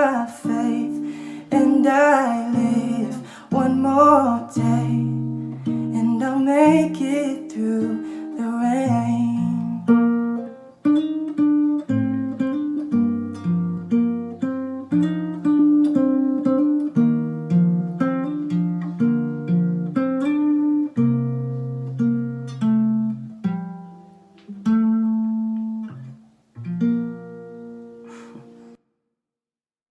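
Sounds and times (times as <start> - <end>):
acoustic guitar playing: 0.0 - 28.8.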